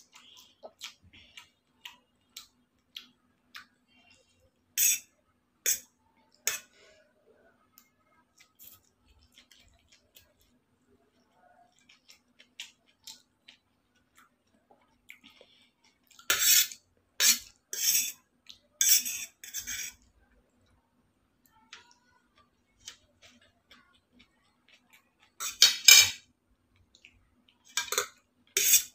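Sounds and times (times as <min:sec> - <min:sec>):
soft chewing: 0:00.0 - 0:25.6, 0:26.2 - 0:28.9.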